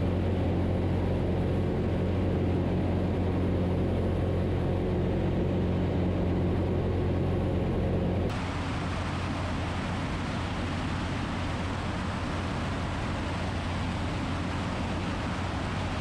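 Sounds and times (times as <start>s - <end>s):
aircraft engine and propeller drone: 0.0s - 16.0s.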